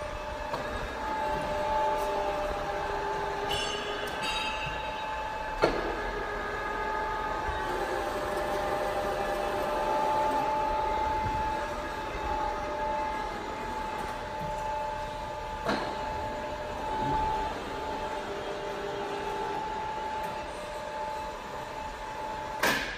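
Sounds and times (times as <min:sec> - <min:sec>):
milling machine whining: 0:00.0 - 0:22.6.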